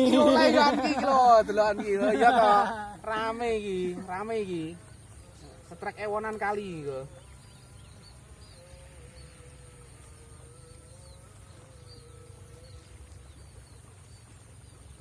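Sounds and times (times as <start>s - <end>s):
insect buzz: 2.6s - 15.0s.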